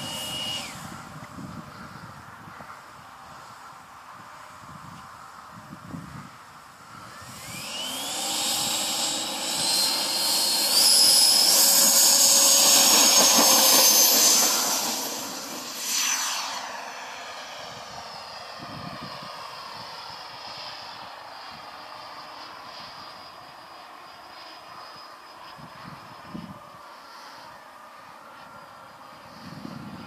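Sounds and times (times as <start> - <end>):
electric ducted fan whine: 0.0 - 30.0.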